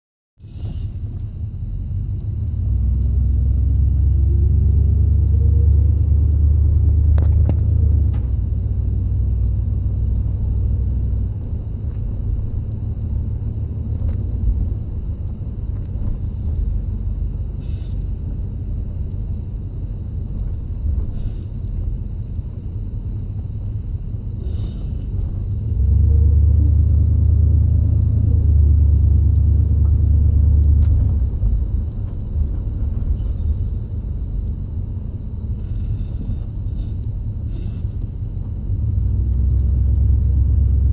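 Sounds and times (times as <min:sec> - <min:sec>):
car engine rumbling: 0:00.4 - 0:40.9.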